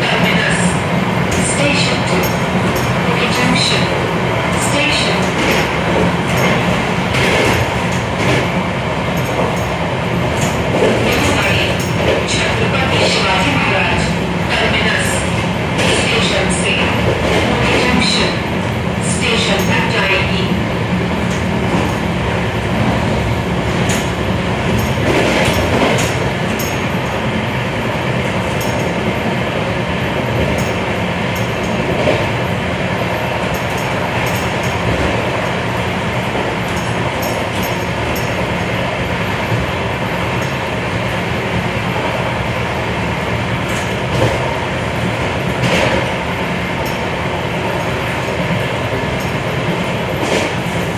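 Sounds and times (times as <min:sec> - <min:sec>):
train running noise: 0:00.0 - 0:50.9.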